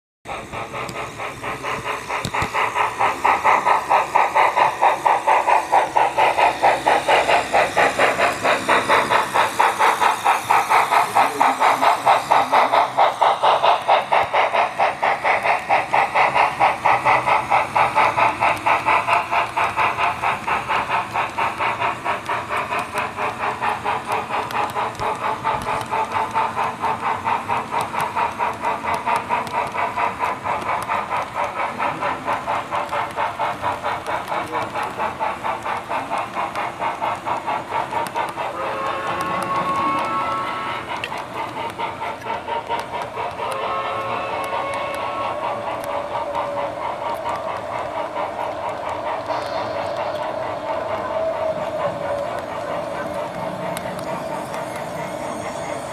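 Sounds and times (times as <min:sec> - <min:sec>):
model train clatter: 0:00.3 - 0:55.9
train motor hum: 0:00.3 - 0:55.9.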